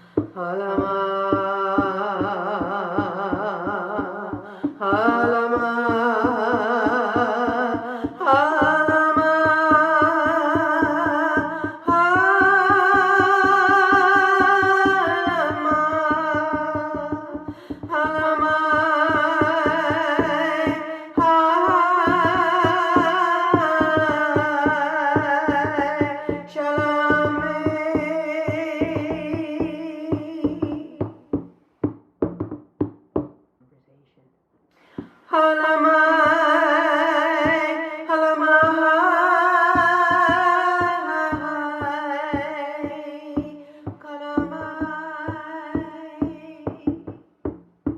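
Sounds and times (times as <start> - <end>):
woman singing wordless held notes: 0.0 - 31.4, 34.8 - 47.2
fast hand-drum beat: 0.0 - 33.3, 39.7 - 47.9.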